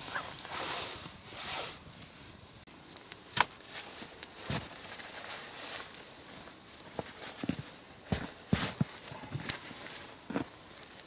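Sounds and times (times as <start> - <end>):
campfire cracks and snaps: 0.0 - 11.0
dry twigs rustling: 0.0 - 11.0.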